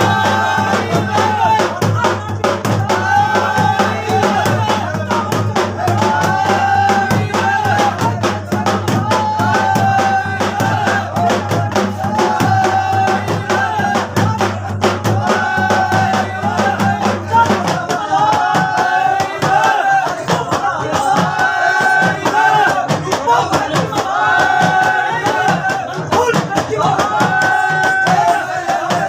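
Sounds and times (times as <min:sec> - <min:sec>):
fast dense percussion: 0:00.0 - 0:29.0.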